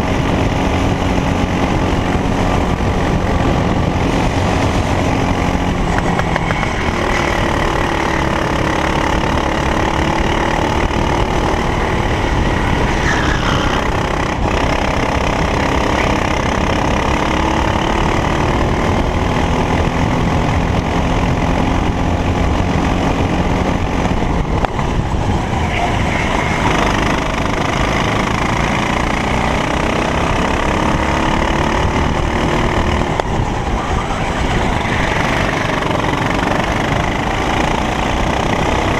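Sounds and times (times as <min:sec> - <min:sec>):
racing kart engine accelerating: 0:00.0 - 0:38.9.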